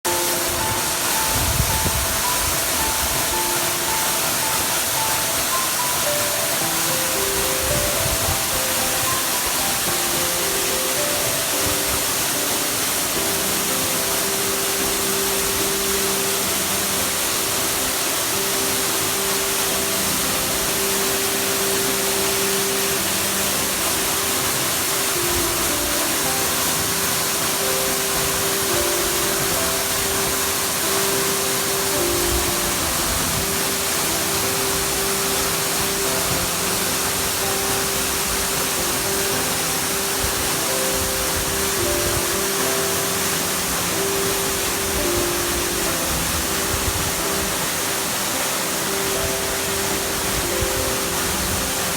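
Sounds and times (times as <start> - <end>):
waterfall rushing: 0.0 - 51.9
slow music of held notes: 0.1 - 51.9.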